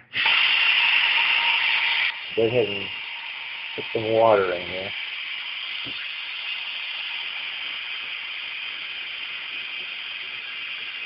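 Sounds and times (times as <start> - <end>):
tap water running into a pot: 0.1 - 11.0.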